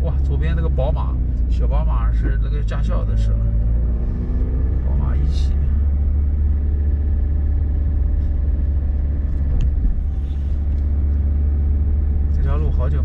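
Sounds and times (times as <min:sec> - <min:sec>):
van engine rumble from inside: 0:00.0 - 0:13.0.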